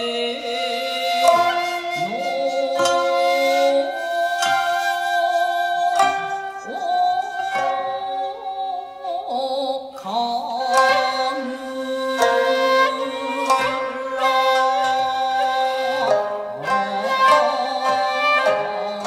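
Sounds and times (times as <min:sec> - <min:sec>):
plucked koto notes: 0:00.0 - 0:09.3, 0:10.1 - 0:19.0
plucked lute notes: 0:00.0 - 0:09.3, 0:10.4 - 0:19.0
held bamboo flute tones: 0:00.0 - 0:19.0.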